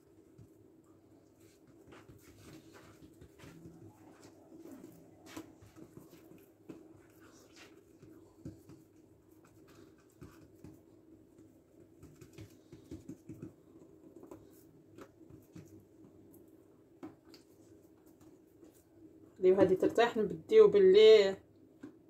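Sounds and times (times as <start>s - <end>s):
hands patting dough: 0.0s - 19.0s.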